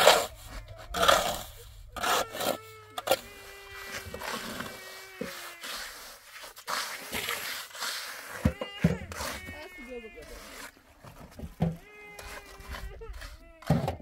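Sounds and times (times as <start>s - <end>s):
trowel scraping wet cement: 0.0s - 11.4s, 12.1s - 14.0s.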